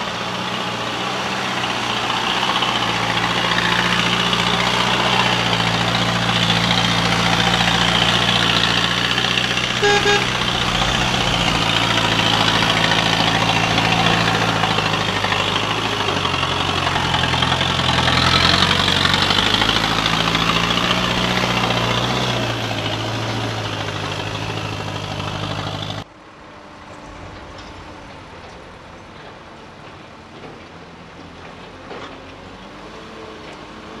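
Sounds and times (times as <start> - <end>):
diesel truck engine driving past: 0.0 - 34.0
distant engine: 0.0 - 34.0.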